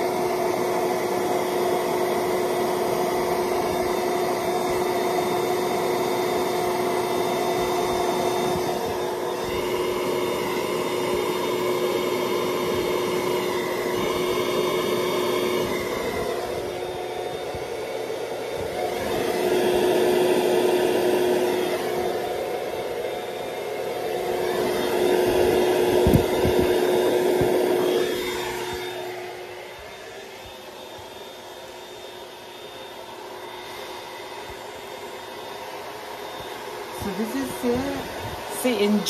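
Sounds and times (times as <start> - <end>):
electric air pump whirring: 0.0 - 39.0.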